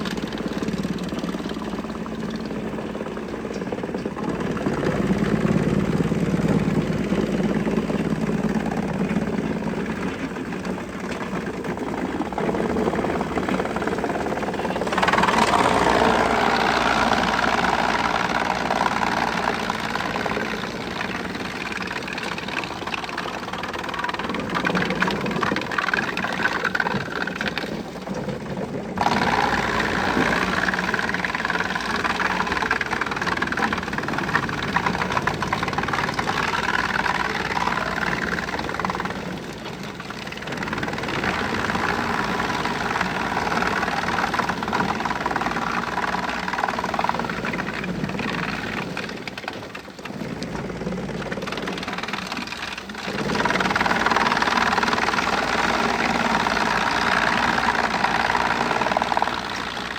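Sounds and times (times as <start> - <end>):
wood chipper engine humming: 0.0 - 59.9
rough rush of wood chipping: 8.2 - 27.9, 29.0 - 59.9.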